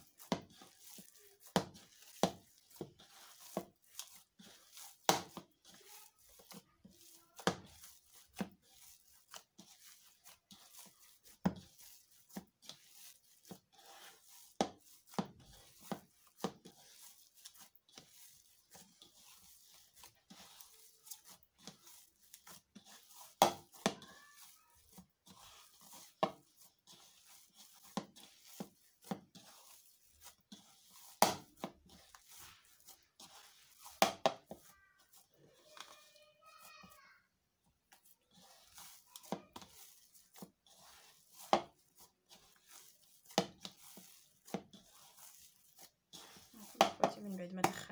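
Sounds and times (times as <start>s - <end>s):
hands squelching mashed potato: 0.0s - 37.2s, 37.8s - 47.9s.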